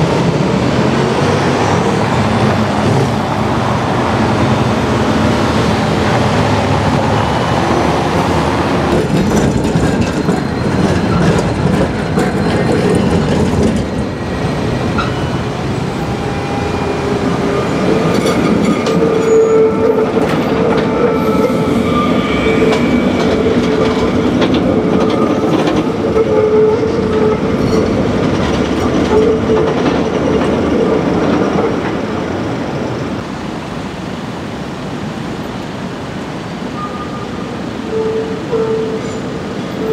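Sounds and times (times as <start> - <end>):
tram passing on track: 0.0 - 39.9.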